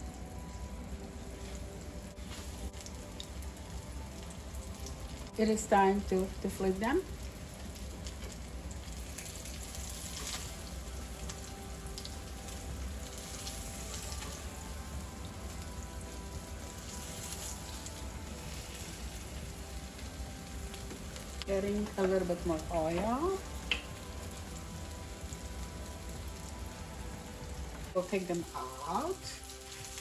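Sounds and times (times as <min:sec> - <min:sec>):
patties sizzling in oil: 0:00.0 - 0:30.0.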